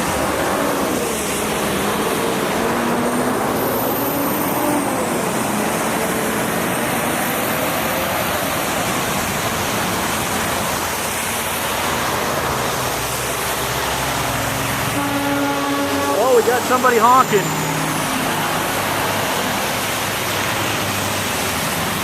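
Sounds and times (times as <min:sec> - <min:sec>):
cars driving past: 0:00.0 - 0:22.0.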